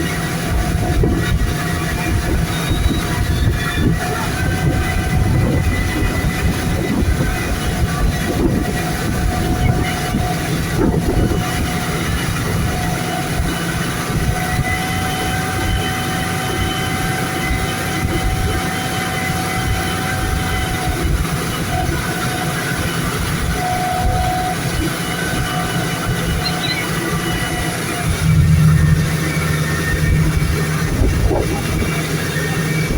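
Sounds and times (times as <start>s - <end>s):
motorboat engine drone: 0.0s - 32.9s
rushing wind and water: 0.0s - 32.9s.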